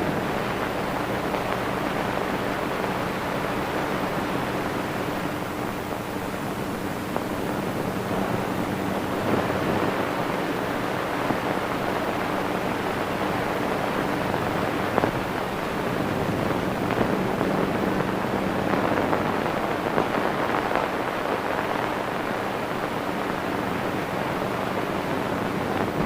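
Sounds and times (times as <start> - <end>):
film soundtrack hiss and hum: 0.0 - 26.0.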